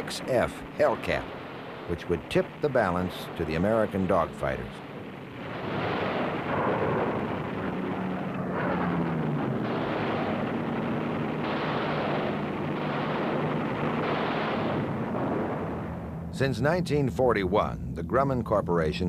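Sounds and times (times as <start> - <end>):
explosions and anti-aircraft fire: 0.0 - 17.7
aircraft engine drone: 0.0 - 19.0.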